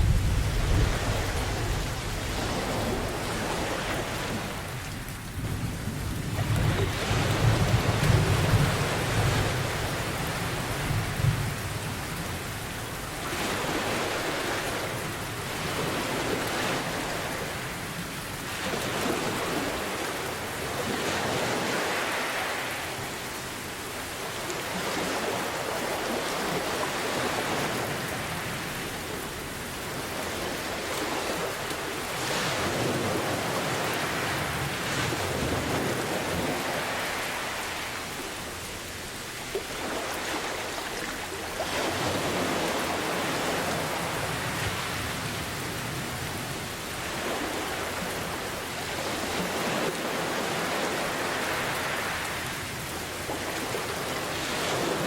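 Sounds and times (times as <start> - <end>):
ocean waves: 0.0 - 55.0
steady rain: 0.0 - 55.0.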